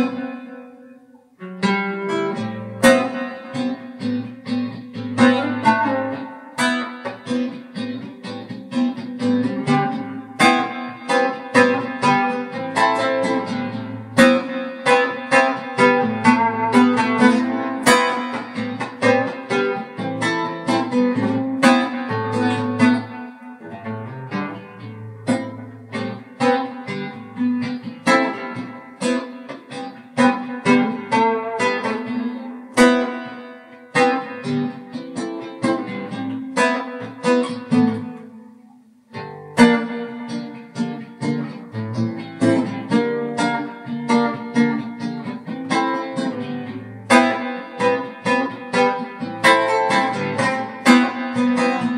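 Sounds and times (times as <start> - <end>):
guitar playing instrumental: 0.0 - 51.9.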